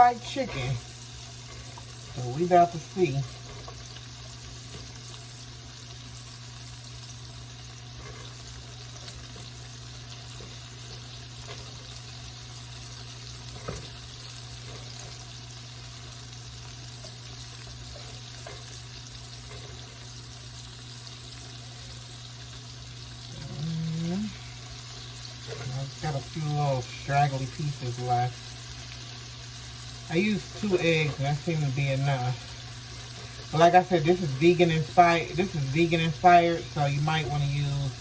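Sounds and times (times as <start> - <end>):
mushrooms frying in hot oil: 0.0 - 38.0.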